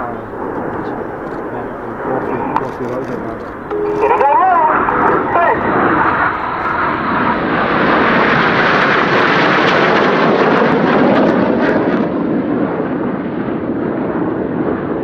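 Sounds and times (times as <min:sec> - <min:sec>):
jet roar flying past: 0:00.0 - 0:15.0.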